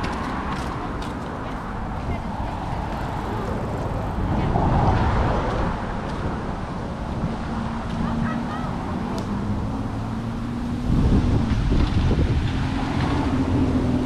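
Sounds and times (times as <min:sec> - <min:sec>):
street traffic: 0:00.0 - 0:14.0
wind buffeting microphone: 0:00.0 - 0:14.0.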